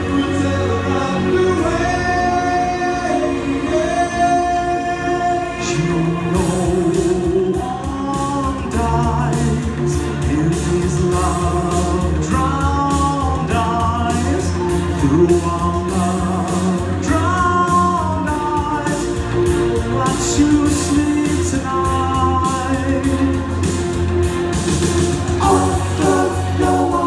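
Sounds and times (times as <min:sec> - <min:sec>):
male vocal group singing: 0:00.0 - 0:23.8, 0:25.3 - 0:27.0
backing music with drums and bass: 0:00.0 - 0:27.0.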